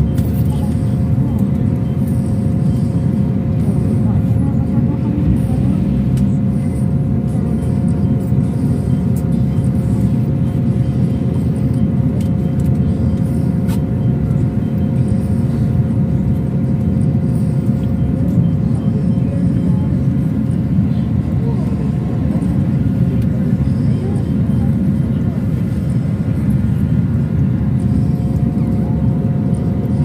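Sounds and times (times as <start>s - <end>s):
bus rumble inside cabin: 0.0s - 30.0s.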